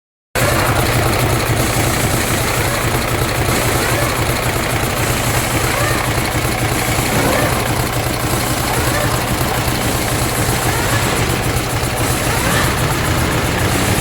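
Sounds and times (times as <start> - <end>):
diesel truck engine idling: 0.4 - 14.0.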